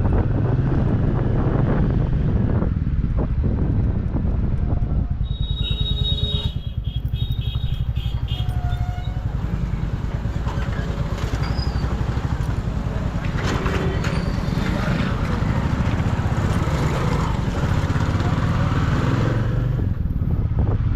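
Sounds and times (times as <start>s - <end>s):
motorcycle engine running: 0.0s - 20.9s
wind buffeting microphone: 0.0s - 20.9s.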